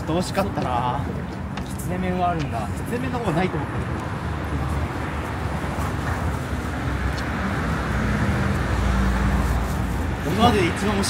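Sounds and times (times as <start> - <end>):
traffic rumble: 0.0 - 11.0
vehicle engine hum: 0.0 - 11.0.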